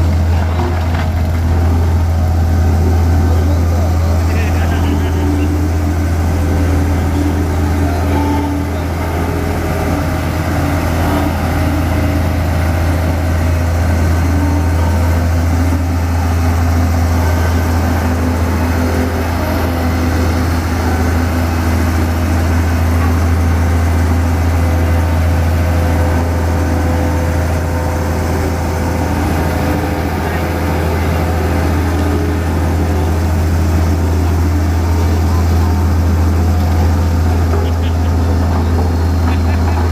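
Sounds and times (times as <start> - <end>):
road roller engine and vibrating drum: 0.0 - 39.9.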